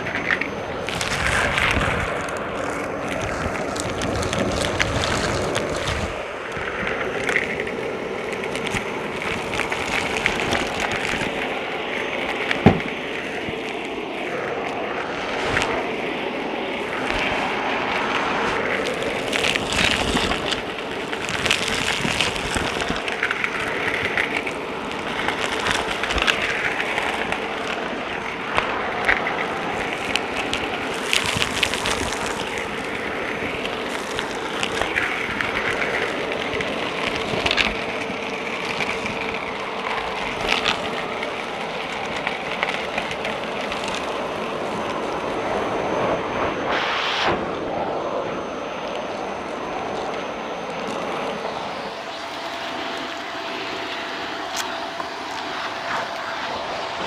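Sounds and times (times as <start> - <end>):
debris crackling in vacuum: 0.0 - 57.0
vacuum cleaner motor hum: 0.0 - 57.0.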